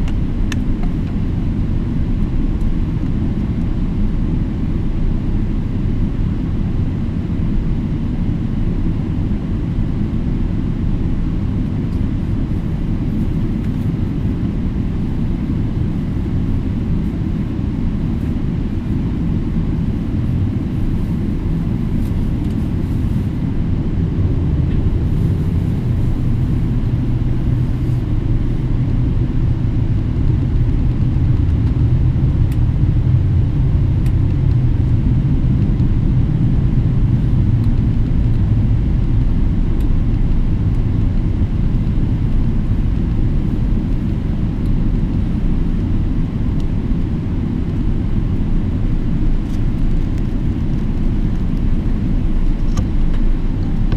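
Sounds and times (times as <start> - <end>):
airplane cabin engine rumble: 0.0 - 53.9
low engine hum: 0.0 - 53.9.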